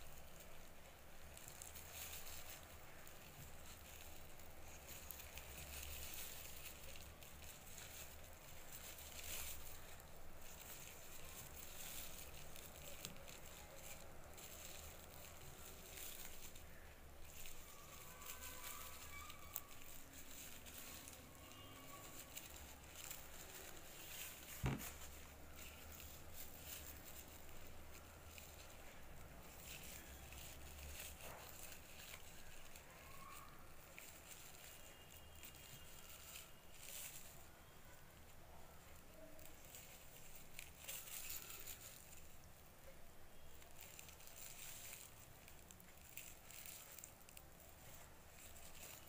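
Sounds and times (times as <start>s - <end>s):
plastic bag crinkling: 0.0s - 49.0s.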